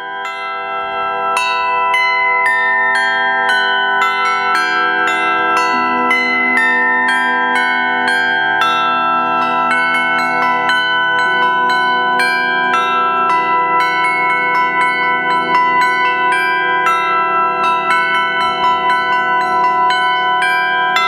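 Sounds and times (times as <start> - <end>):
tuned bells ringing: 0.0 - 21.0.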